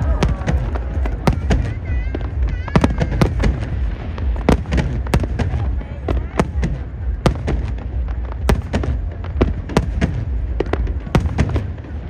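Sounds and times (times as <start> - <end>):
fireworks bangs: 0.0 - 12.0
low rumble: 0.0 - 12.0.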